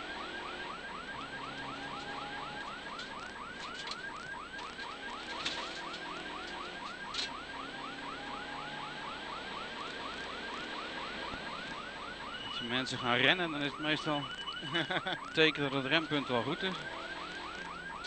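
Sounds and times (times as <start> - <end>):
car engine hum: 0.0 - 18.0
electronic siren yelp: 0.0 - 18.0.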